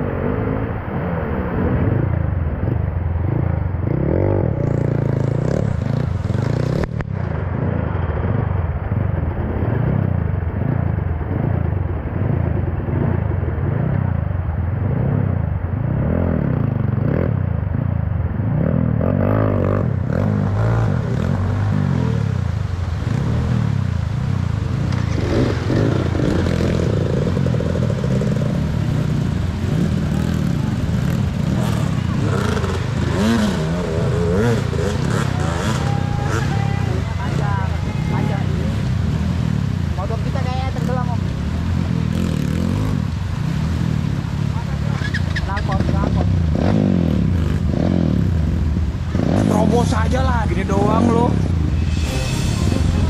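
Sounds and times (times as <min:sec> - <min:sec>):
motorcycle engine revving: 0:00.0 - 0:08.6, 0:14.7 - 0:53.0.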